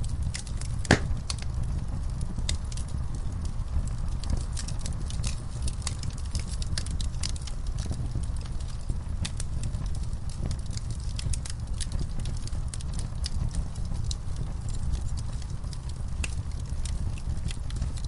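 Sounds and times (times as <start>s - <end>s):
burning wood crackling and popping: 0.0s - 18.0s
low rumble of flame: 0.0s - 18.0s.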